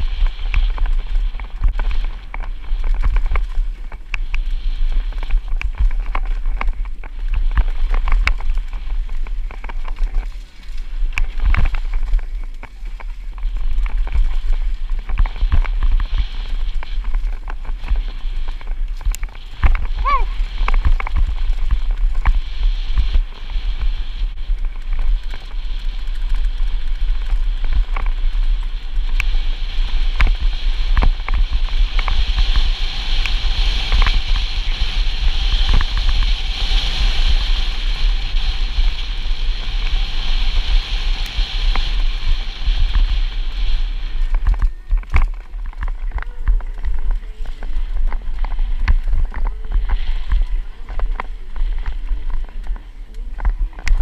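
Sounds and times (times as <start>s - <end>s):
bike rattling and knocking: 0.0s - 54.0s
wind rumble on microphone: 0.0s - 54.0s.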